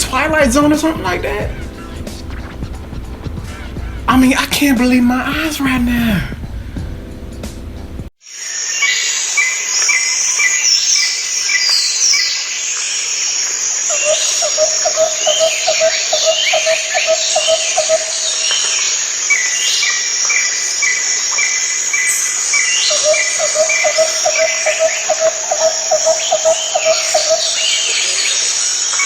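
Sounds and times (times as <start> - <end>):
chorus of birds singing: 0.0 - 5.0, 8.3 - 29.0
rapid lower bird chirps: 0.1 - 4.1, 8.7 - 29.0.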